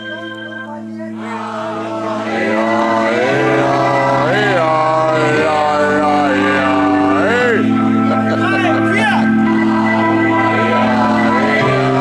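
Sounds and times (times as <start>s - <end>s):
live band playing chord: 0.0s - 12.0s
person singing: 1.1s - 8.4s, 9.4s - 12.0s.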